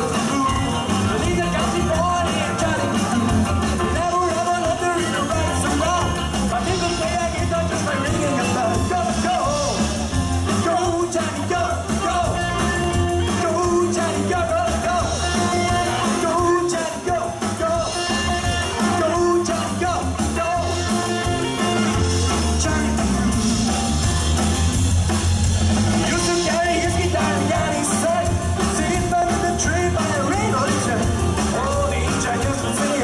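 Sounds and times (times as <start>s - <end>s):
person singing: 0.0s - 23.8s, 26.0s - 33.0s
live rock band playing: 0.0s - 33.0s.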